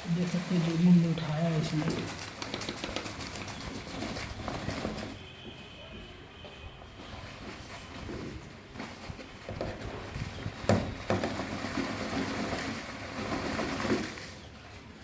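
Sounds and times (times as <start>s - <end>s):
rustling and light clatter: 0.0s - 15.0s.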